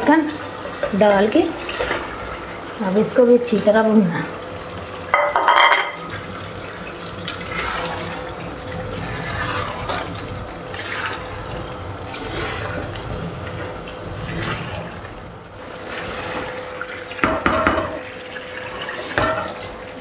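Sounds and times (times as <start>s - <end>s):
chicken sizzling in a pan: 0.0s - 20.0s.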